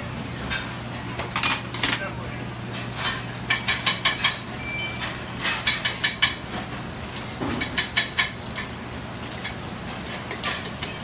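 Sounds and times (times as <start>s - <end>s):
metal utensils clinking on pans: 0.5s - 2.1s, 2.7s - 6.6s, 7.5s - 11.0s.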